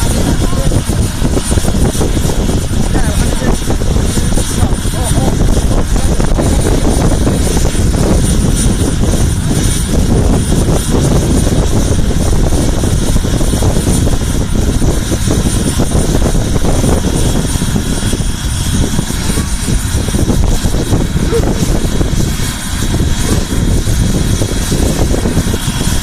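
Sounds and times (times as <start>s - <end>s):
helicopter rotor rumble: 0.0s - 26.0s
helicopter turbine whine: 0.0s - 26.0s.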